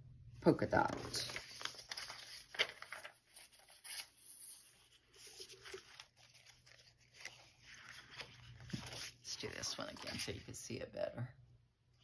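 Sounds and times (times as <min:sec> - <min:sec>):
paper sheets rustling and crinkling: 0:00.7 - 0:10.6.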